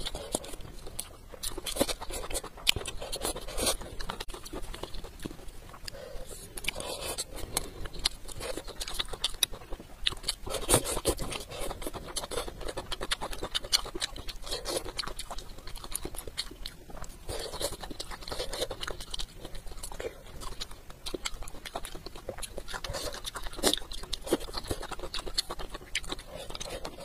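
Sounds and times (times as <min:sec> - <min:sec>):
chewing food: 0:00.0 - 0:27.0.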